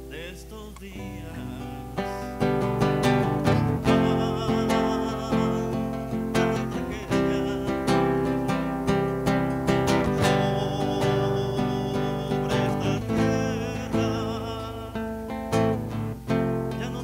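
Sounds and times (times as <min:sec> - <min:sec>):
acoustic guitar strummed and plucked: 0:00.0 - 0:17.0.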